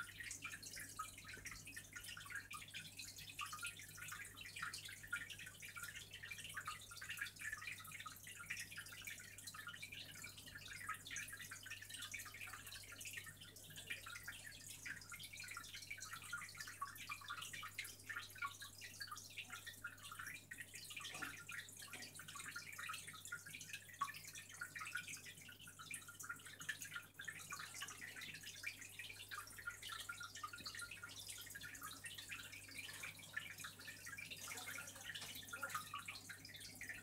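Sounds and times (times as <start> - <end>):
aquarium water trickling and bubbling: 0.0 - 37.0.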